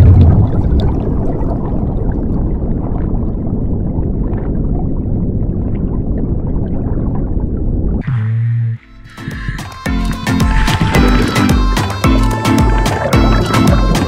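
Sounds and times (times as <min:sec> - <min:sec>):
underwater water rumble: 0:00.0 - 0:11.4.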